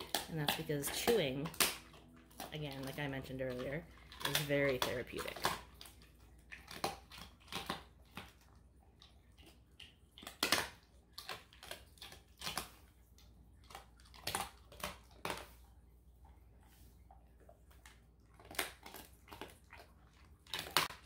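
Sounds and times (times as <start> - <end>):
dog crunching a bone: 0.0 - 21.0.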